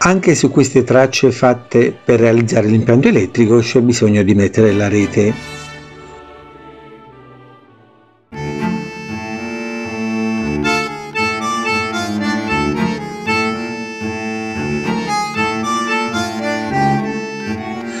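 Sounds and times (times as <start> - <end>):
instrumental background music: 0.0 - 18.0.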